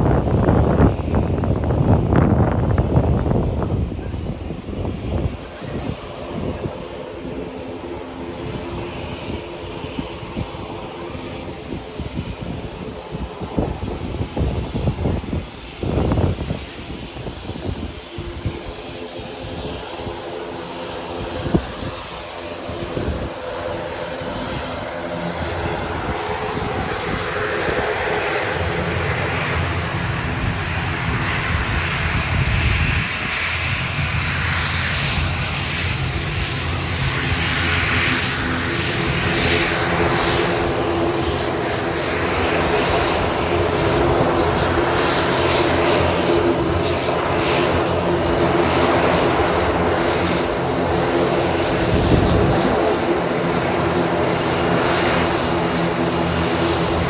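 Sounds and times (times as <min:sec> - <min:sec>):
turboprop aircraft drone: 0:00.0 - 0:57.0.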